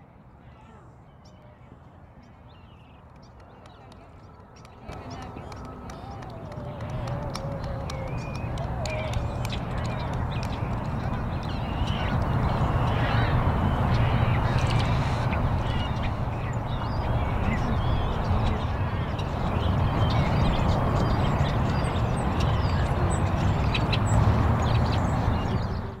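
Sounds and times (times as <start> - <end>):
steady rushing wind noise: 4.1 - 26.0.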